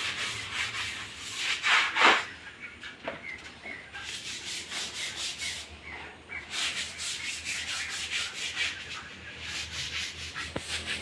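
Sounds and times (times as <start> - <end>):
brush scrubbing wet concrete: 0.0 - 2.6, 3.9 - 11.0.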